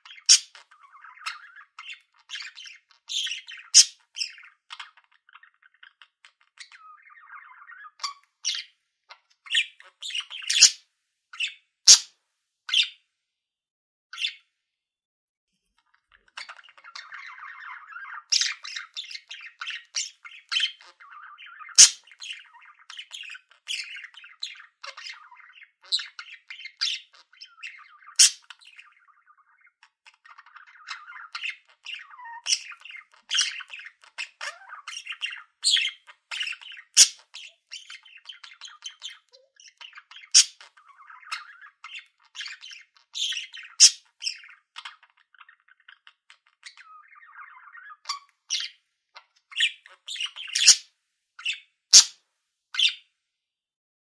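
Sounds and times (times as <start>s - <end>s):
budgerigars chirping and squawking: 0.0s - 10.8s, 11.4s - 13.0s, 14.2s - 14.4s, 15.8s - 52.2s, 52.8s - 53.0s.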